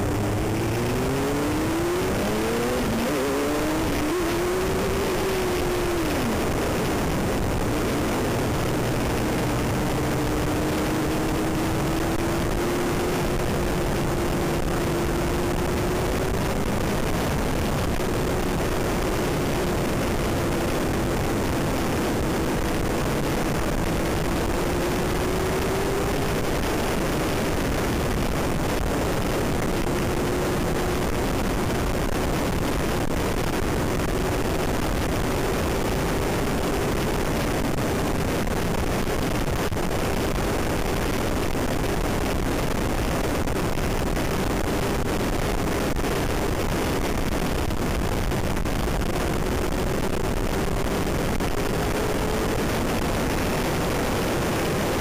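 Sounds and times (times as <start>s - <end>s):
faint motorcycle engine hum: 0.0s - 55.0s
wind rushing over microphone: 0.0s - 55.0s.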